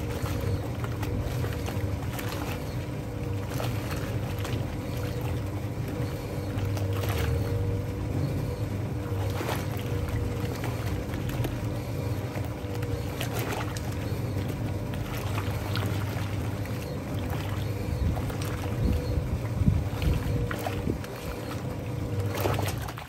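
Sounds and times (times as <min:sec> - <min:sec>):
washing machine motor hum: 0:00.0 - 0:23.0
water sloshing in washing machine: 0:00.0 - 0:23.0.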